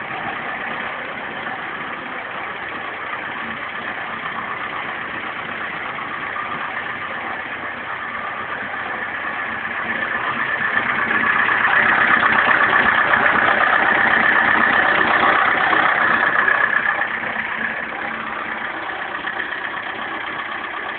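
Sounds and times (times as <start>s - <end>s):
tractor diesel engine idling: 0.0s - 20.9s.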